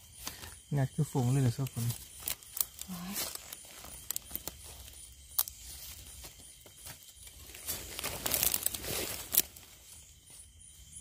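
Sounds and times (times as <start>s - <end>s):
dry leaves rustling: 1.2s - 10.3s.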